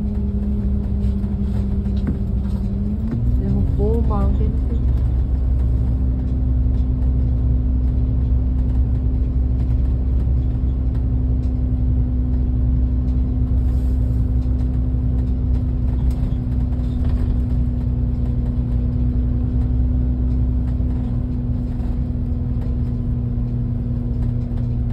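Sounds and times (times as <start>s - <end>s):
constant hum: 0.0s - 24.9s
vehicle engine and tyre rumble: 0.0s - 24.9s.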